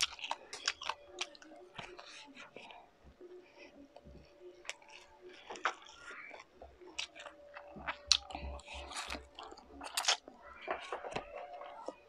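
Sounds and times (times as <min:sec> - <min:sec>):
person chewing with wet smacks: 0:00.0 - 0:12.0.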